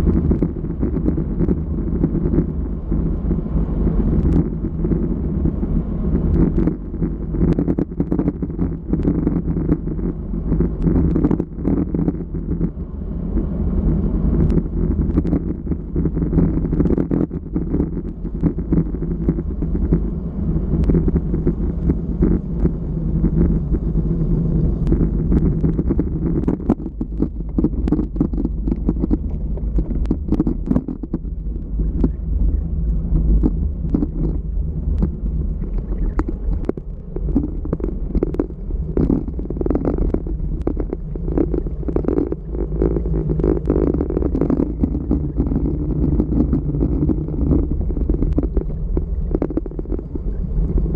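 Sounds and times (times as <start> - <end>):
tyres rumbling on asphalt: 0.0 - 50.9
wind buffeting microphone: 0.0 - 50.9.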